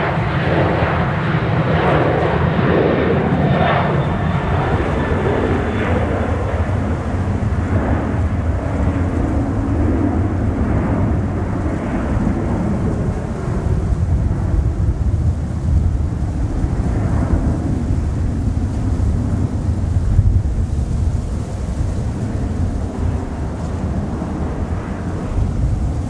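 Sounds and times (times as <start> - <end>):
jet engines rumbling at takeoff: 0.0 - 26.0.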